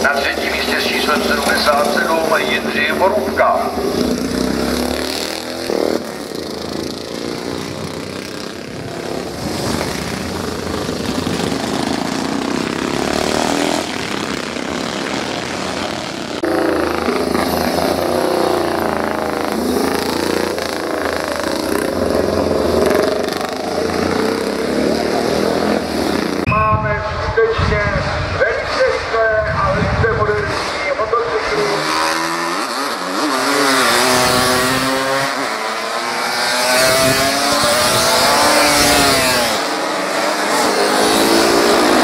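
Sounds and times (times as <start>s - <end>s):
racing motorcycles revving past: 0.0s - 26.5s, 30.4s - 42.0s.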